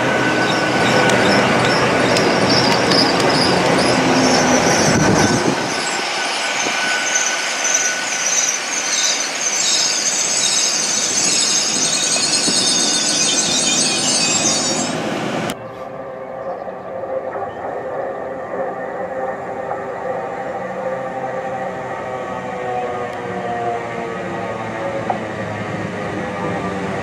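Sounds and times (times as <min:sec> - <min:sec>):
train wheels squealing: 0:00.0 - 0:27.0.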